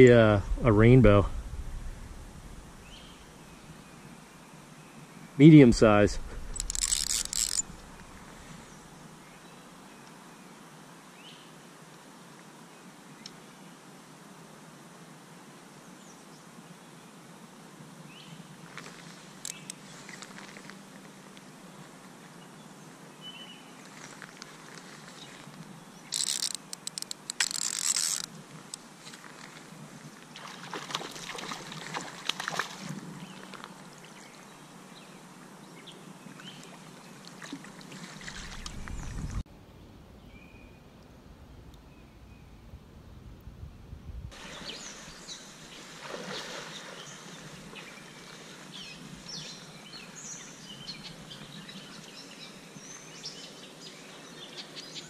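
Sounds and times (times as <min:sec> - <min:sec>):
slow creek flowing: 0:00.0 - 0:13.7, 0:17.4 - 0:39.5, 0:44.3 - 0:55.0.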